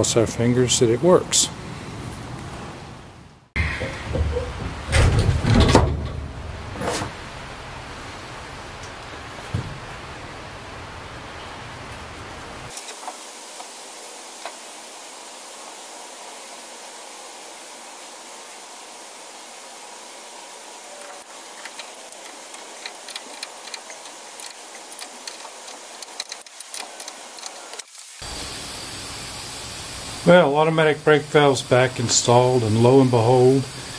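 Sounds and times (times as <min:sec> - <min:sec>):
steady hiss: 0:00.0 - 0:02.8, 0:03.4 - 0:33.9.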